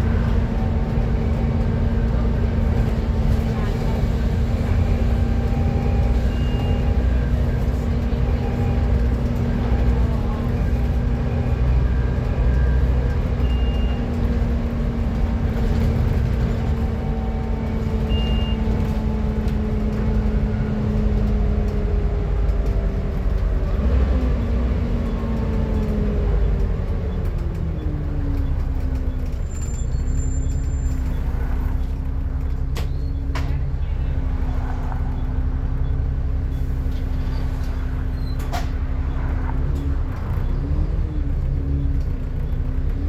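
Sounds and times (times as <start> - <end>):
bus engine rumble: 0.0 - 43.0.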